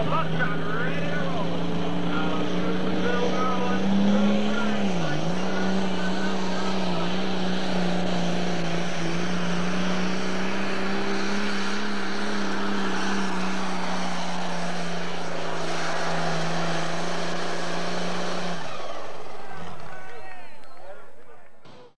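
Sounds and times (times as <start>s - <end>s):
tractor engine running flat out: 0.0s - 21.9s.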